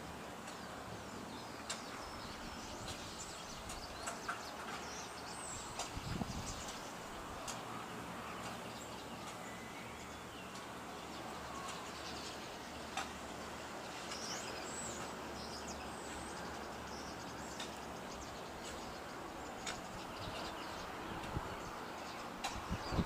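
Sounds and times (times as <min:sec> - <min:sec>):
outdoor background hiss: 0:00.0 - 0:23.0
small birds chirping: 0:00.1 - 0:23.0.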